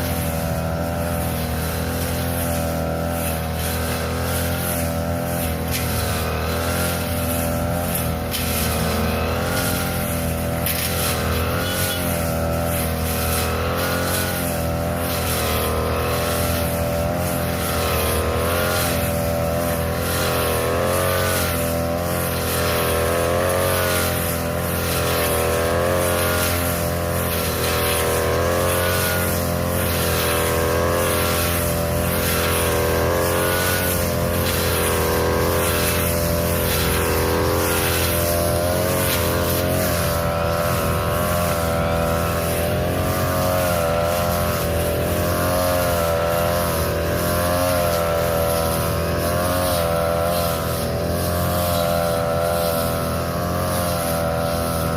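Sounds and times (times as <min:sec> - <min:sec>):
blade swishing through grass: 0:00.0 - 0:54.9
brush cutter engine running: 0:00.0 - 0:54.9.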